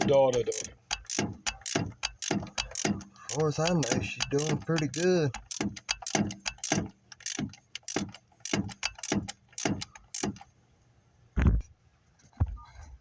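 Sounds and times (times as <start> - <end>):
ratchet wrench clicking: 0.0 - 10.5.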